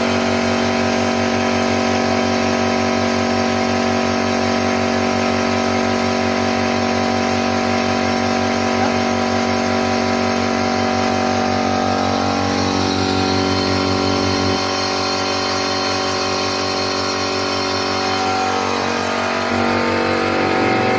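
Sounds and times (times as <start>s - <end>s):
electric motor humming: 0.0s - 20.9s.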